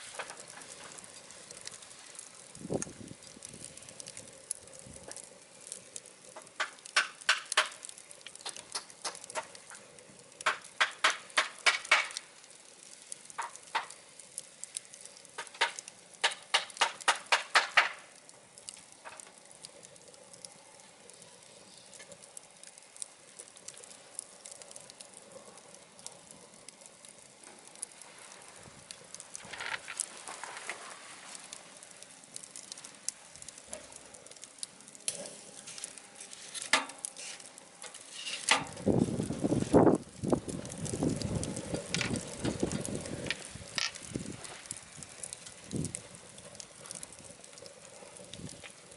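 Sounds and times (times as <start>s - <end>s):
wood fire crackling in a stove: 0.0s - 48.9s.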